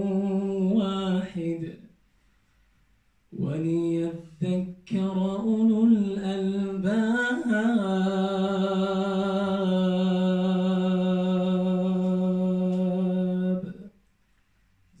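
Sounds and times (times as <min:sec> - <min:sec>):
man chanting recitation: 0:00.0 - 0:01.9, 0:03.3 - 0:13.9.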